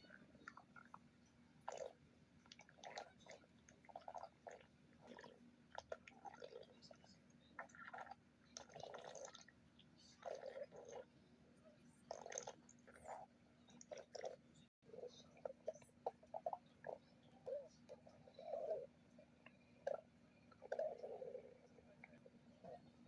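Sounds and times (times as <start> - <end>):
stomach growling: 0.0 - 11.2, 11.9 - 23.0.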